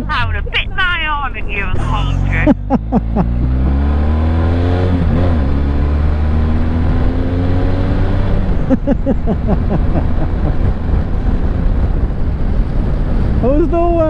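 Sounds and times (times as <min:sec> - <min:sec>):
motorcycle engine accelerating: 0:01.7 - 0:13.5.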